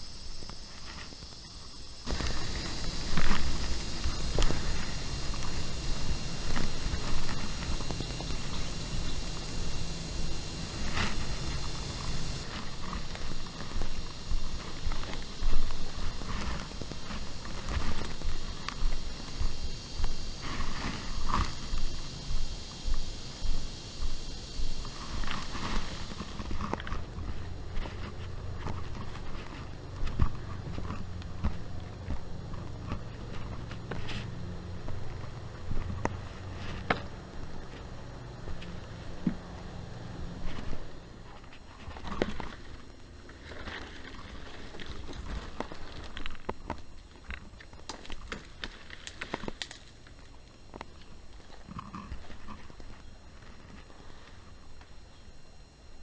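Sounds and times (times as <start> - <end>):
footsteps on a trail: 0.0 - 55.0.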